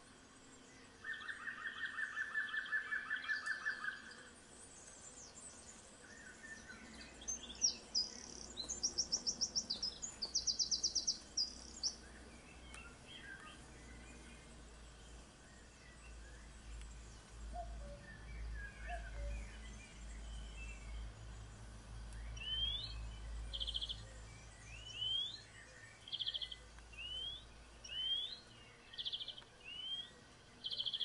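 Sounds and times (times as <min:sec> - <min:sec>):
birds trilling: 0:00.8 - 0:21.2, 0:22.2 - 0:31.0.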